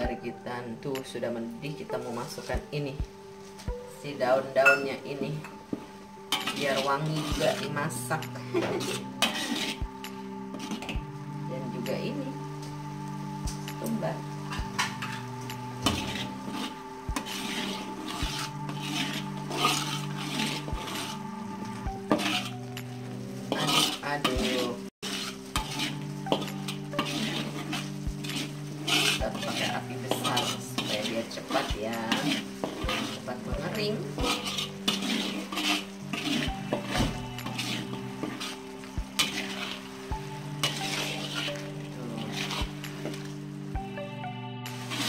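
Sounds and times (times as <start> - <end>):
spice paste sizzling: 0.2 - 44.1, 44.7 - 45.0
metal spatula scraping a wok: 3.4 - 11.2, 13.4 - 43.9, 44.7 - 45.0.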